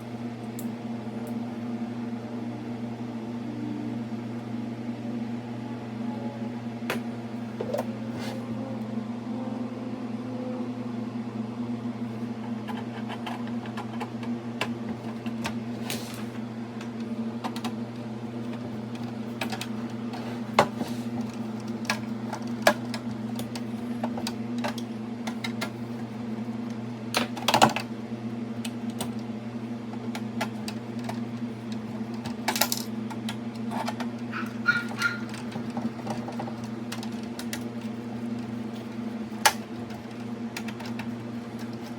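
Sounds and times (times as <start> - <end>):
low machine hum: 0.0 - 41.9.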